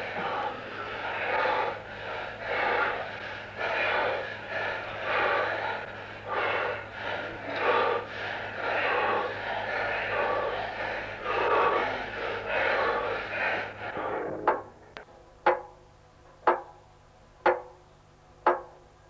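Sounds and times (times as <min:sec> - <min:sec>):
heavy rhythmic breathing: 0:00.0 - 0:15.8, 0:16.4 - 0:16.8, 0:17.4 - 0:17.8
steady low hum: 0:00.0 - 0:19.0.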